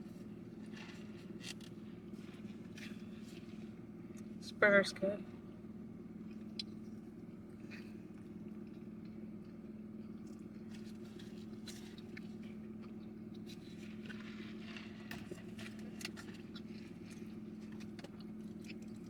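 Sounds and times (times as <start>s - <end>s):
chewing food: 0.0s - 4.4s, 5.4s - 19.0s
steady low hum: 0.0s - 19.0s.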